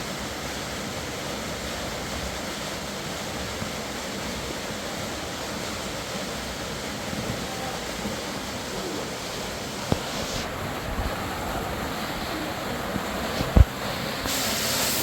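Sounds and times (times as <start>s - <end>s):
fast-flowing river rushing: 0.1s - 15.0s.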